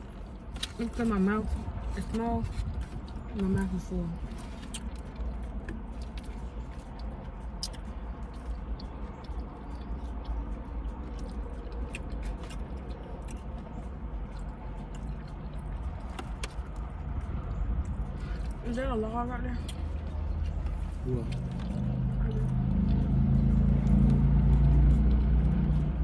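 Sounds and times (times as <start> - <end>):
person chewing food: 0.0 - 18.7, 19.6 - 26.0
low rumble: 0.0 - 26.0.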